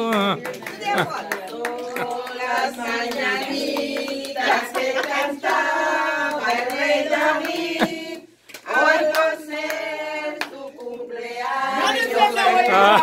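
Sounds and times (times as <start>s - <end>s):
hand claps: 0.0s - 11.0s
group of voices singing: 0.0s - 13.0s.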